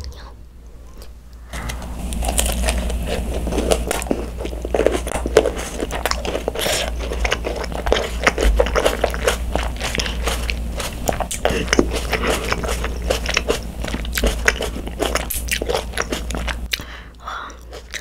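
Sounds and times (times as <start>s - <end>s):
macaron shells crunching: 2.1s - 18.0s.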